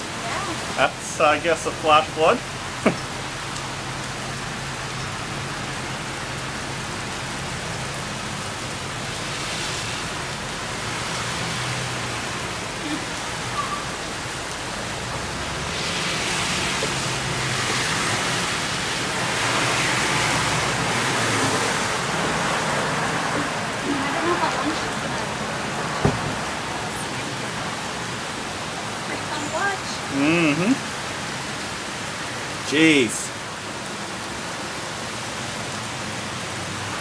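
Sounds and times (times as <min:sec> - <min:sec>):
tyres swishing through water: 0:00.0 - 0:32.6
heavy rain falling: 0:00.0 - 0:37.0.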